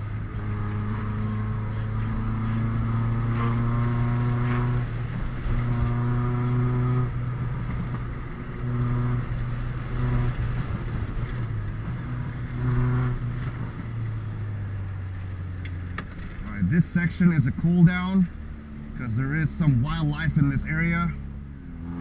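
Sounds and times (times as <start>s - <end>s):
car engine pulling under throttle: 0.0s - 22.0s.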